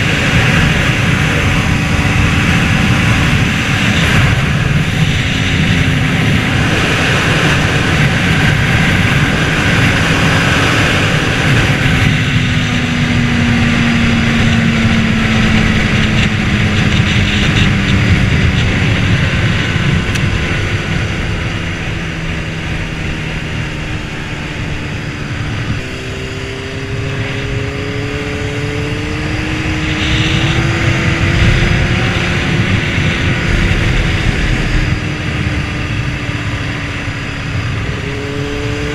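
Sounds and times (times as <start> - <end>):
motorcycle engine: 0.0 - 38.9
wind rush on microphone: 0.0 - 38.9.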